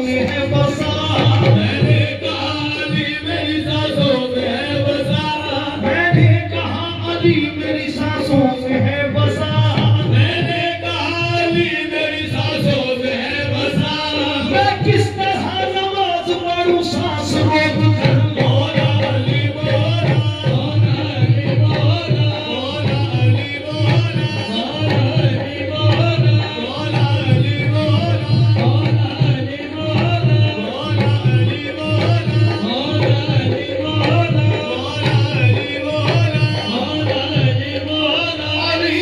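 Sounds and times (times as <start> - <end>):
tabla beat: 0.0 - 39.0.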